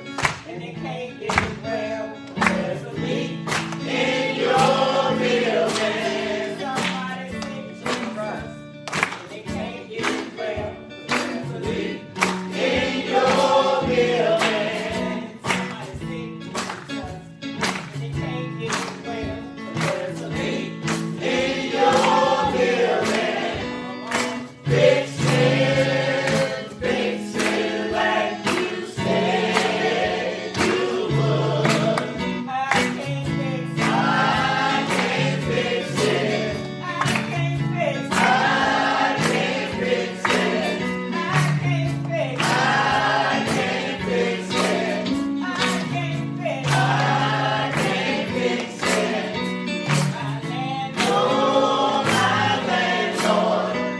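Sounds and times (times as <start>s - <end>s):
choir singing gospel: 0.0s - 53.9s
instrumental backing: 0.0s - 53.9s
steady drum beat: 2.4s - 8.6s, 9.4s - 17.2s, 17.8s - 53.9s.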